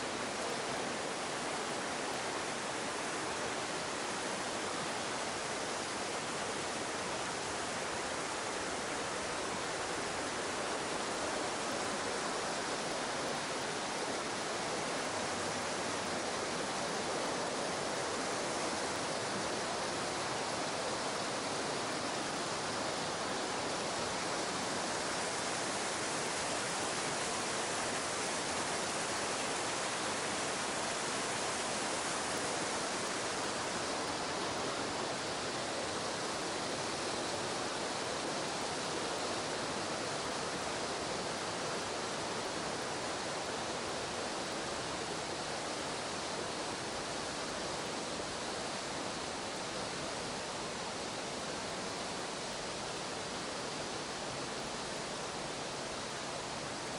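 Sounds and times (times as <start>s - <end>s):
mountain stream and waterfalls rushing: 0.0s - 56.9s.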